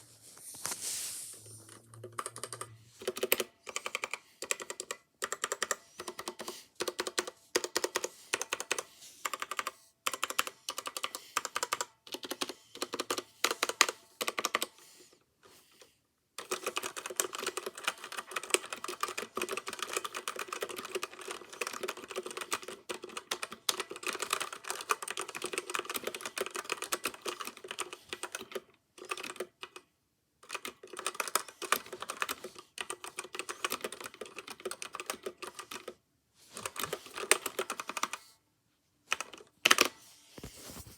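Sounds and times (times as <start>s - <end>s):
mechanical keyboard typing: 1.6s - 14.8s, 16.4s - 36.0s, 36.6s - 38.2s, 39.1s - 40.0s.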